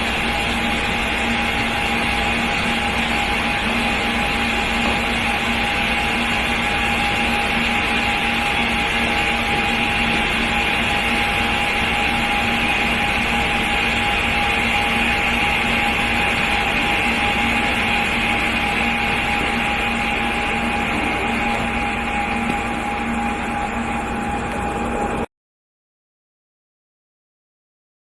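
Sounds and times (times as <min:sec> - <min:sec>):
flame unit hissing: 0:00.0 - 0:25.2.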